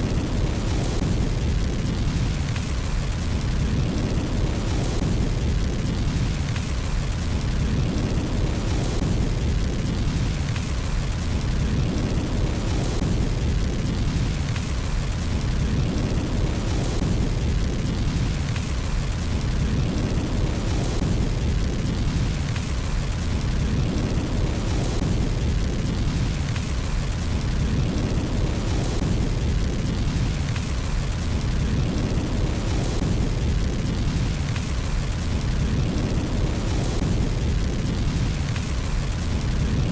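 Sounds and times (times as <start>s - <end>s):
fire crackling: 0.0s - 39.9s
fire roaring in fireplace: 0.0s - 39.9s.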